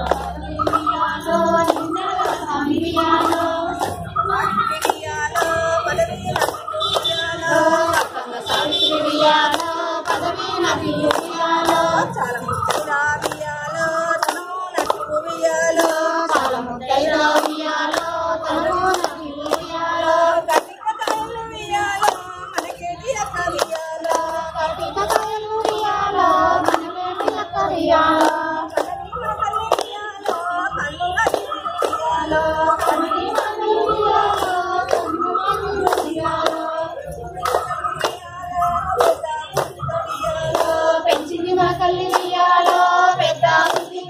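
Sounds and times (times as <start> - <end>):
hands clapping in time: 0.0 - 44.0
women singing in unison: 0.0 - 44.0.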